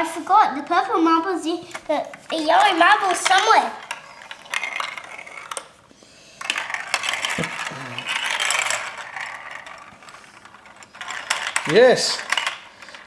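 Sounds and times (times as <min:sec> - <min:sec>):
marbles rattling down plastic track: 0:00.0 - 0:05.8, 0:06.4 - 0:13.0.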